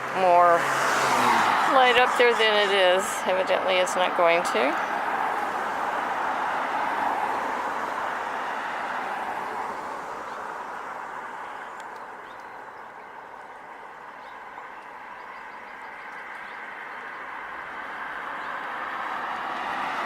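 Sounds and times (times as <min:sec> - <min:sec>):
passing vehicle road noise: 0:00.0 - 0:20.0.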